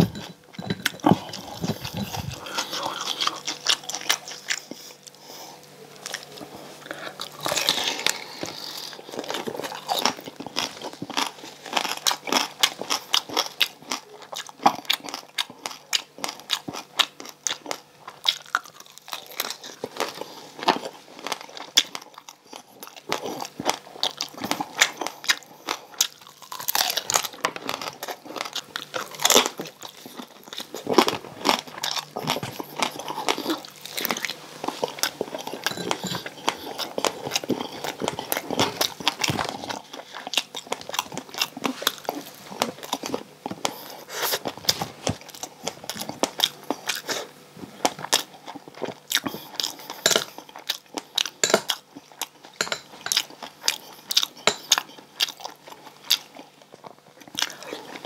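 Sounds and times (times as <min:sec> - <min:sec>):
crunching crispy pork: 0:06.0 - 0:58.0.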